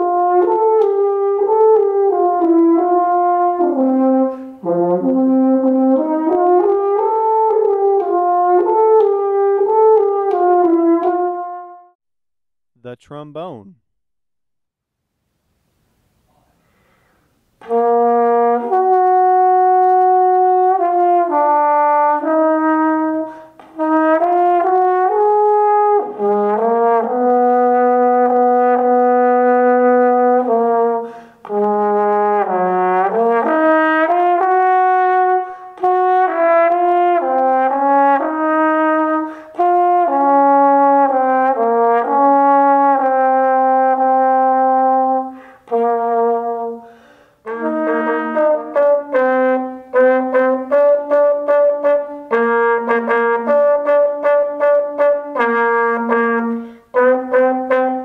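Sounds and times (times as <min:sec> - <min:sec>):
trombone slow melody: 0:00.0 - 0:12.0, 0:17.6 - 0:58.0.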